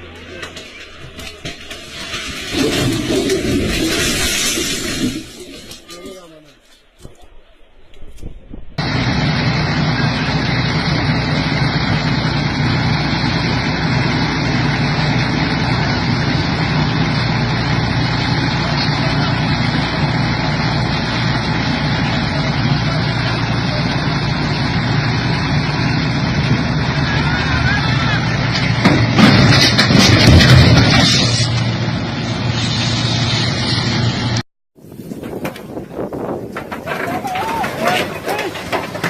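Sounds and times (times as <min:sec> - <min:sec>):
truck engine running: 0:00.0 - 0:05.8, 0:08.7 - 0:39.0
road noise: 0:00.0 - 0:39.0.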